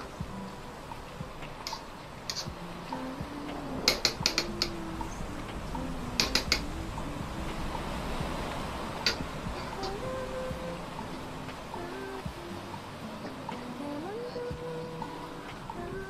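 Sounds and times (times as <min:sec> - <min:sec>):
faint background music: 0:00.0 - 0:16.0.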